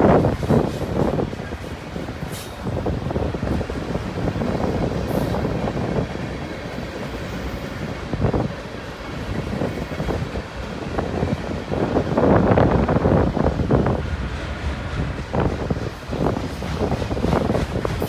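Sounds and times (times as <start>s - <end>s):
train wheels clattering over rail joints: 0.0s - 18.0s.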